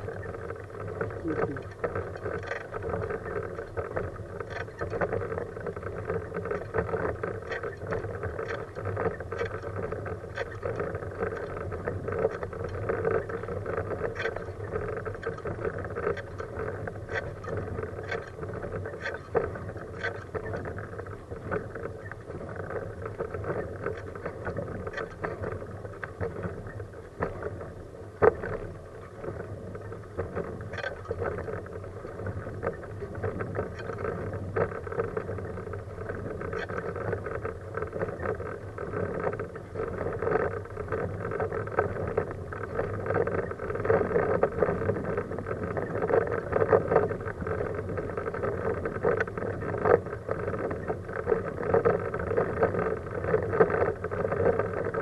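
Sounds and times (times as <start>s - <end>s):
wheelchair rolling on asphalt: 0.0s - 55.0s.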